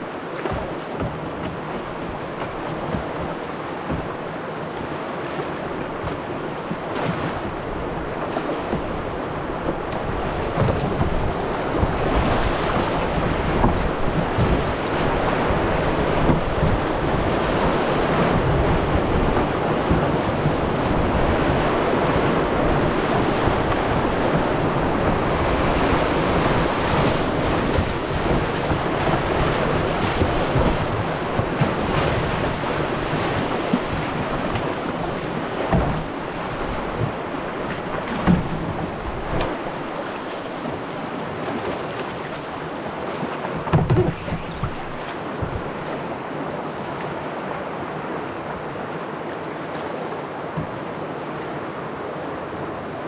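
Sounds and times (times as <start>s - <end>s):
whitewater rapids rushing: 0.0s - 53.0s.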